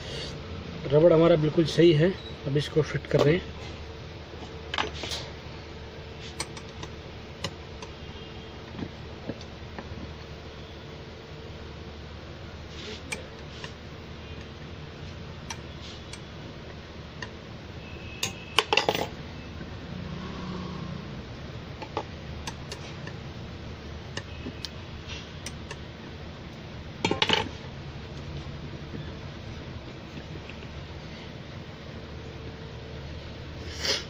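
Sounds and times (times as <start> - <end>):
steady low hum: 0.0 - 33.7.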